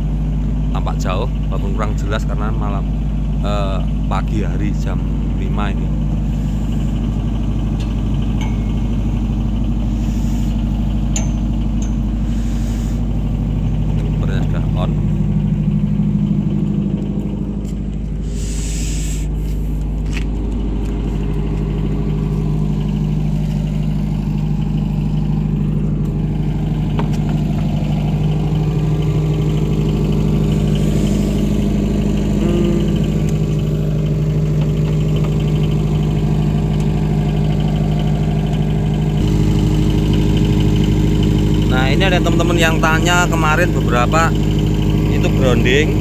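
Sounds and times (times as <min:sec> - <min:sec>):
generator engine humming: 0:00.0 - 0:46.0.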